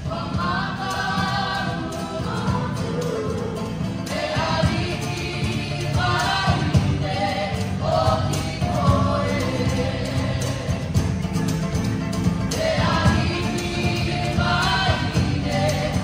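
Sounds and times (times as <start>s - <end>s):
group of voices singing: 0.0s - 11.4s, 12.4s - 16.0s
instrumental accompaniment: 0.0s - 16.0s.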